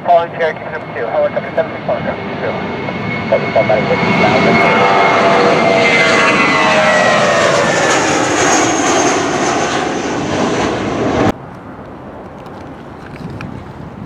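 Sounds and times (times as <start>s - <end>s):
jet airliner roaring past: 0.0s - 14.0s
wind noise: 2.7s - 14.0s.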